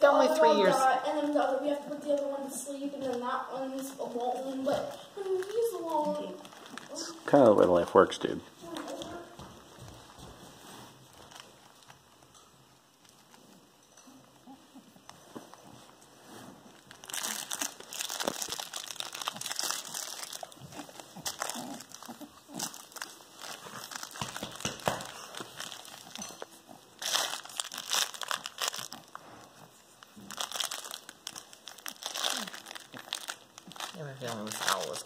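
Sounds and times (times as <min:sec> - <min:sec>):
crinkling and rustling: 0:00.0 - 0:35.0.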